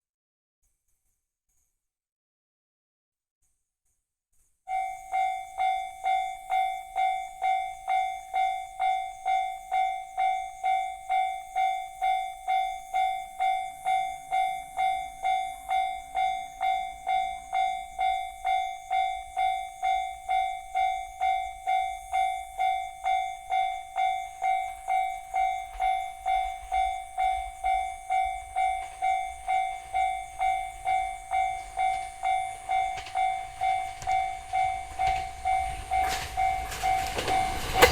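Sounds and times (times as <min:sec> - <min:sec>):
level crossing warning bell: 0:04.7 - 0:37.9
low train rumble: 0:04.8 - 0:37.9.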